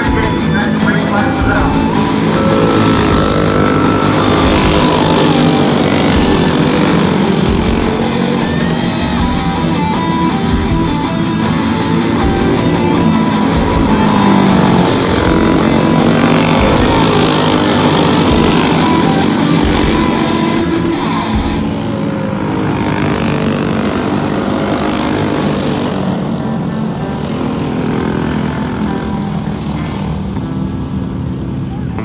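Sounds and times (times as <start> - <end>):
go-kart engines racing: 0.0 - 32.0
rock music: 0.0 - 32.0.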